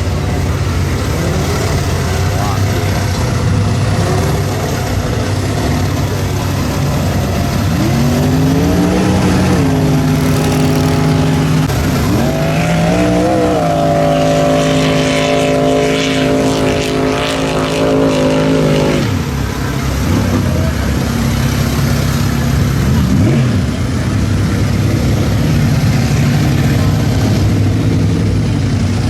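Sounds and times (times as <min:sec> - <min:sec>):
engine revving hard: 0:00.0 - 0:29.0.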